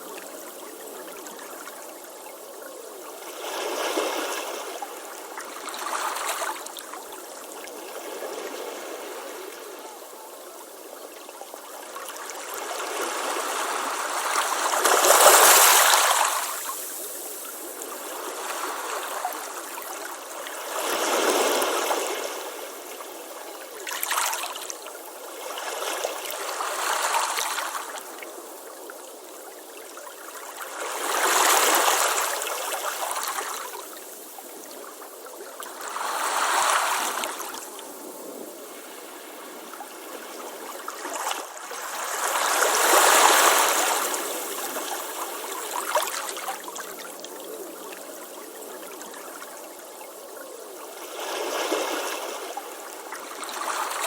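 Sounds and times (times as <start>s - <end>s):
ocean waves washing onto beach: 3.1s - 54.0s.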